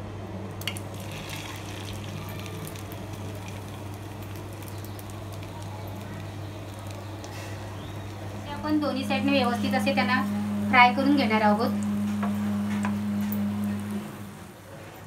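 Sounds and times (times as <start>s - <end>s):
steady low hum: 0.0s - 15.0s
food crackling in hot oil: 0.6s - 14.0s.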